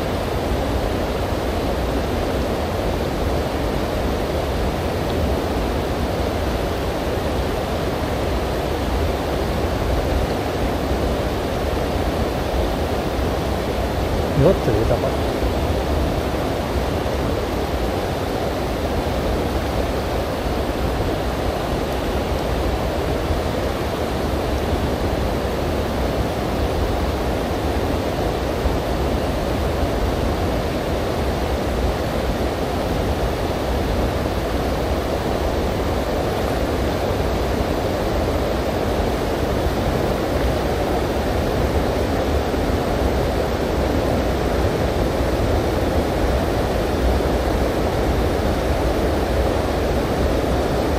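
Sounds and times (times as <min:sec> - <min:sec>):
river running over rocks: 0:00.1 - 0:50.9.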